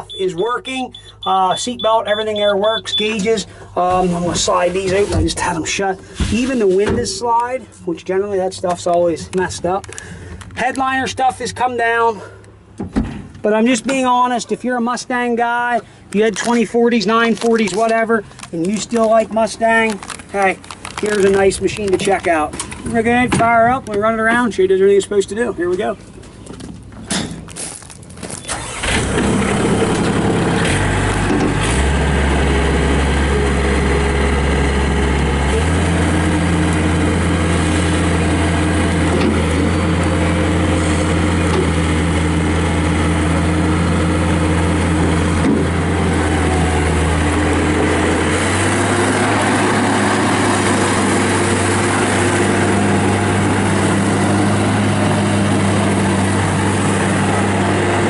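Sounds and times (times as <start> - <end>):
diesel engine starting and running: 0.0 - 58.0.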